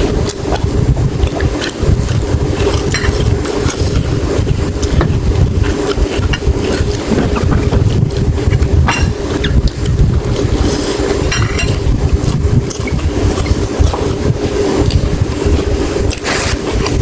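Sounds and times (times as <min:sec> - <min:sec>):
chewing crunches: 0:00.0 - 0:17.0
low rumble and hum: 0:00.0 - 0:17.0.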